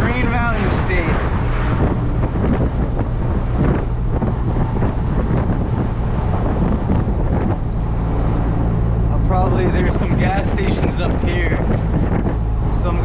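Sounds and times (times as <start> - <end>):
diesel engine drone: 0.0 - 13.0
road and wind noise: 0.0 - 13.0.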